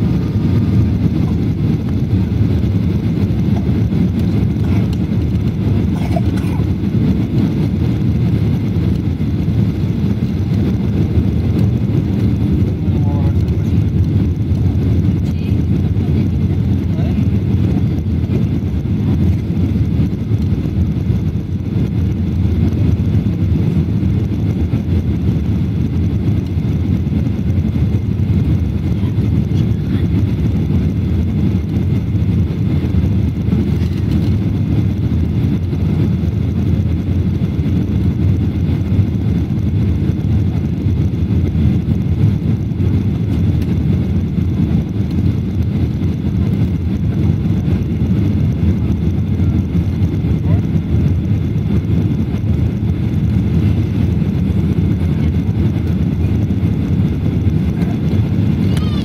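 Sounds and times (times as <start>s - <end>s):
air rushing over wing: 0.0s - 59.0s
jet engines rumbling: 0.0s - 59.0s.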